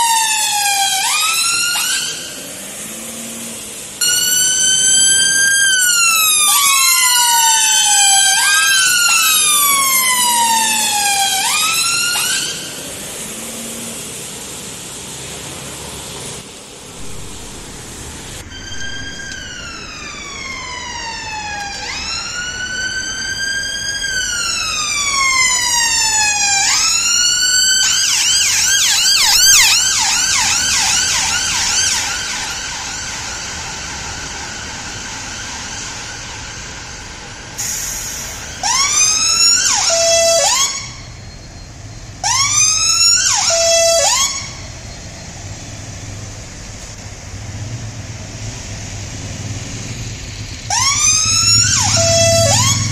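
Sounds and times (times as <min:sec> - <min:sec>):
ambulance siren wailing and yelping: 0:00.0 - 0:14.0, 0:16.9 - 0:46.8, 0:50.2 - 0:52.9
road traffic: 0:00.0 - 0:52.9.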